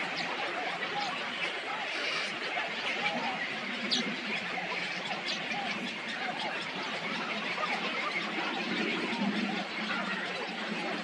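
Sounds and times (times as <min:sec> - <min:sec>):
chorus of birds chirping: 0:00.0 - 0:11.0.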